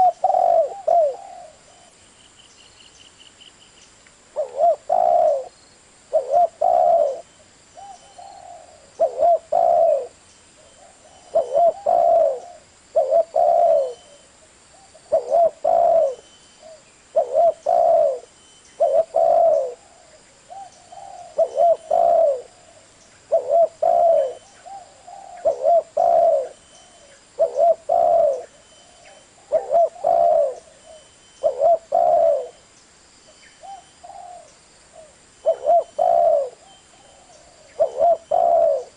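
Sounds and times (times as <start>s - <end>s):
dove cooing: 0.0s - 2.0s, 4.3s - 32.6s, 33.6s - 38.9s.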